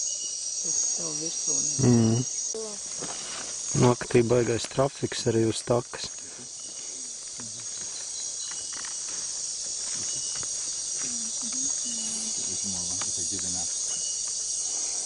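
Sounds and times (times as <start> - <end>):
insect chirps: 0.0 - 15.0
insects high-pitched shrill: 0.0 - 15.0.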